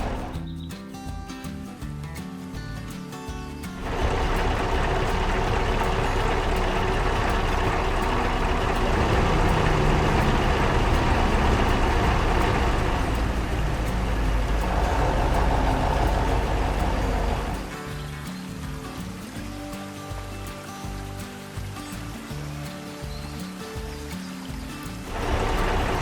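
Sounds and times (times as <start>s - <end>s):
heavy vehicle engine rumbling: 0.0s - 0.6s, 3.6s - 26.0s.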